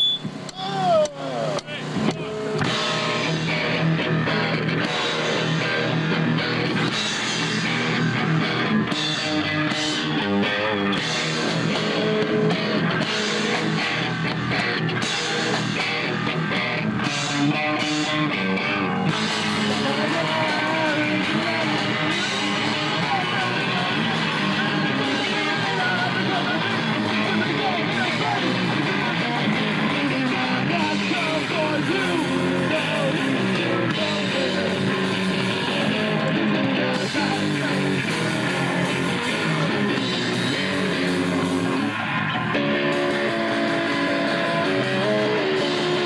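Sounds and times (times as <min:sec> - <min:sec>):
drum kit: 0:00.0 - 0:46.0
electric guitar: 0:00.0 - 0:46.0.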